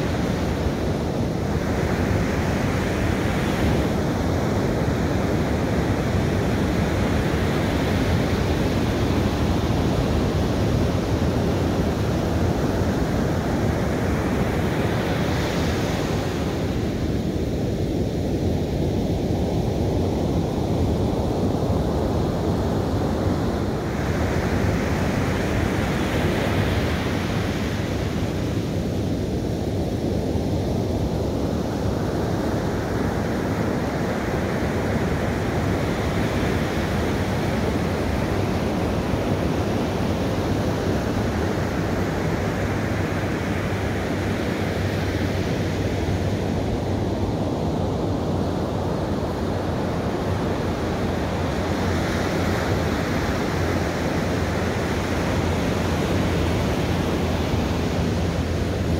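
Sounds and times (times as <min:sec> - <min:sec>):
surf rumbling: 0:00.0 - 0:58.9.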